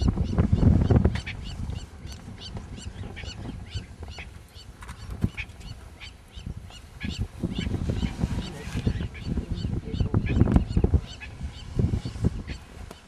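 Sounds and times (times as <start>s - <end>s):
birds honking: 0.0s - 13.0s.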